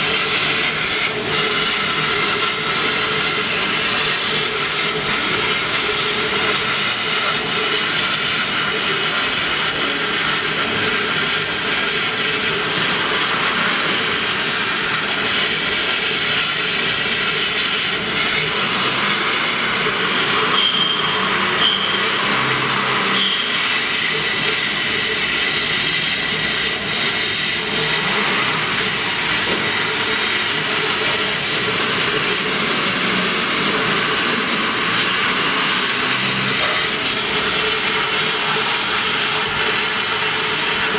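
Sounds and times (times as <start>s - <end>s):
laser cutter hissing and humming: 0.0s - 40.9s.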